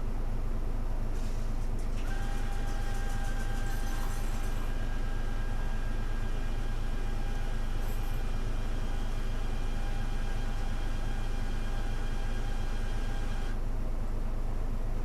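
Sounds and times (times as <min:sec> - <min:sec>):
high engine whine: 0:00.0 - 0:15.0.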